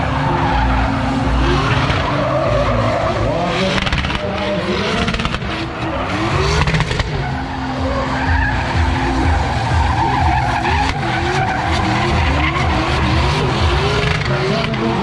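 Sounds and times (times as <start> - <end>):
car engines revving: 0.0 - 15.0
tyres screeching: 0.0 - 15.0.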